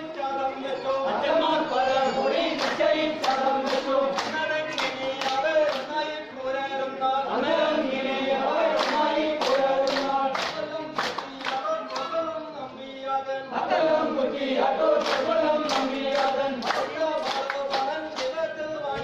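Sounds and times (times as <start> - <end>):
men singing in unison: 0.0 - 19.0
rhythmic hand claps: 0.9 - 6.2, 7.4 - 12.6, 13.8 - 19.0.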